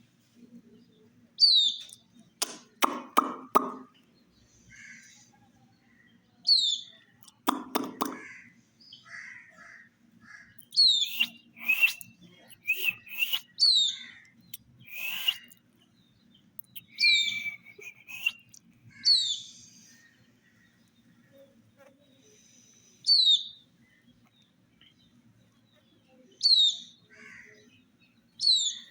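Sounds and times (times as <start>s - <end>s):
baby chicks peeping: 0.8s - 21.9s, 22.8s - 28.9s.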